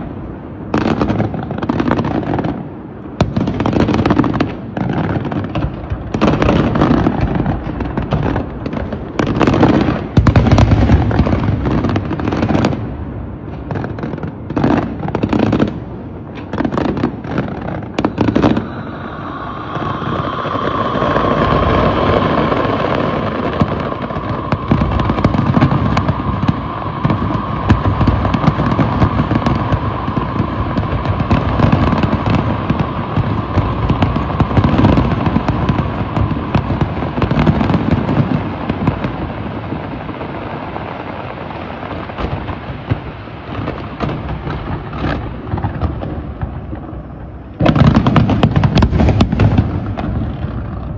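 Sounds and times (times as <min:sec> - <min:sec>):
dense fireworks crackle: 0:00.0 - 0:50.9
fireworks bangs: 0:00.0 - 0:50.9.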